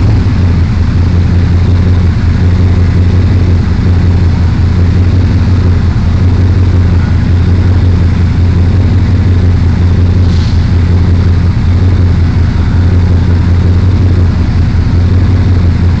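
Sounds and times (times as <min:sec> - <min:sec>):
truck engine running steadily: 0:00.0 - 0:16.0.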